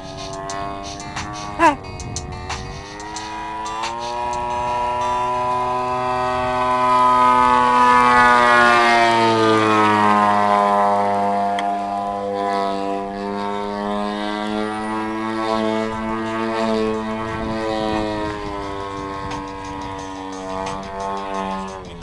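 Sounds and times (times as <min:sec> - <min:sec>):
model airplane engine droning: 0:00.0 - 0:22.0.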